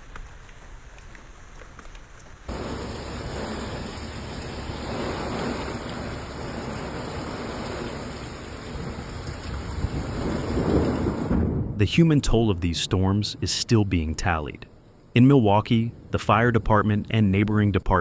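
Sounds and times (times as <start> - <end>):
heavy rain pouring: 0.0 - 16.2.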